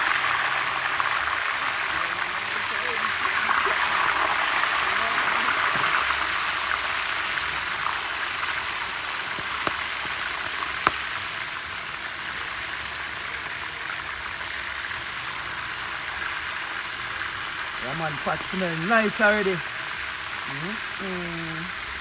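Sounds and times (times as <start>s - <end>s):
water boiling in a pot: 0.0s - 22.0s.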